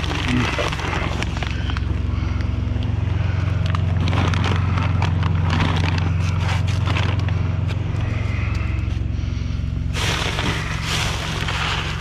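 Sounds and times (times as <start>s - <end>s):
low droning hum: 0.0s - 12.0s
rummaging through items: 0.0s - 12.0s.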